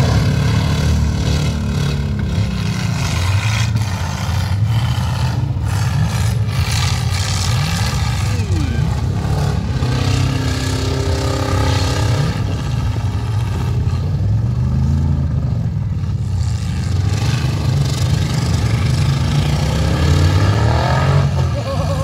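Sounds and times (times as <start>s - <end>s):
truck engines running and revving: 0.0s - 22.0s.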